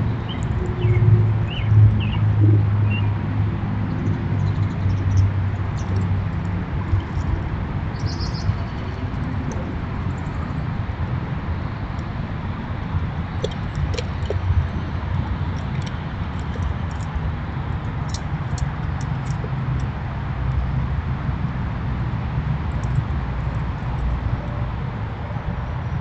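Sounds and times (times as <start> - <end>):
steady low rumble: 0.0 - 25.2.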